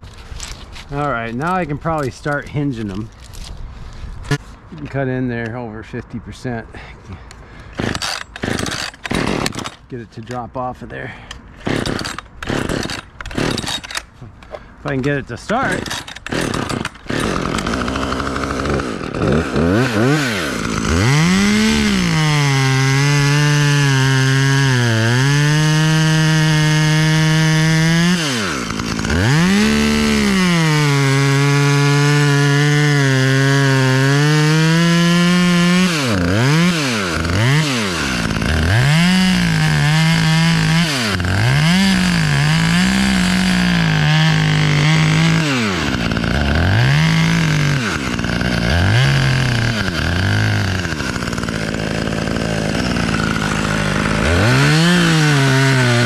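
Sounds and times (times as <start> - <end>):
chainsaw cutting wood: 7.6 - 56.0.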